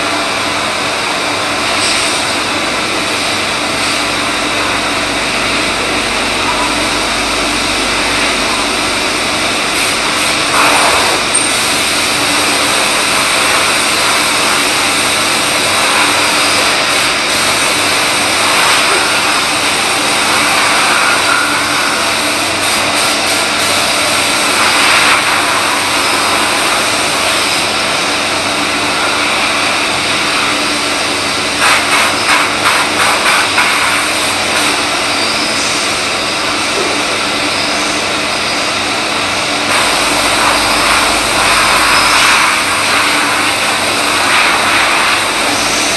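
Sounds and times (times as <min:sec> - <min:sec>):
lathe machining: 0:00.0 - 0:45.9.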